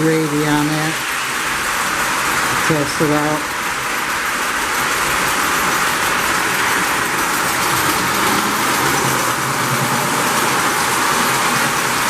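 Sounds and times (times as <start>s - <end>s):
model train motor whirring: 0.0s - 12.0s.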